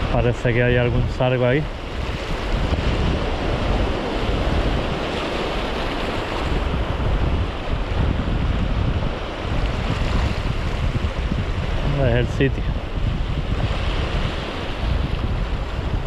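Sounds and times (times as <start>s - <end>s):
surf washing over rocks: 0.0s - 16.0s
wind buffeting microphone: 0.0s - 16.0s.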